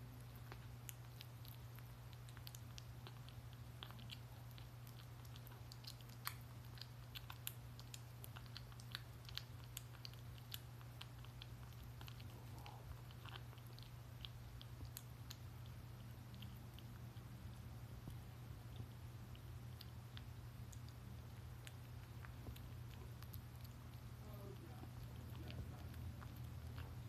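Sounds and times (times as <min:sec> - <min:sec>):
kitten eating wet food: 0:00.0 - 0:27.0
steady low hum: 0:00.0 - 0:27.0.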